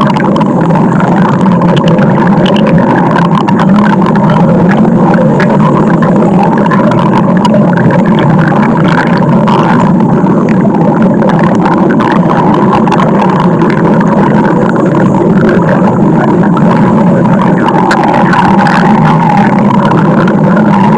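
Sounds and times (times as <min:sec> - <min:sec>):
stomach growling: 0:00.0 - 0:20.9.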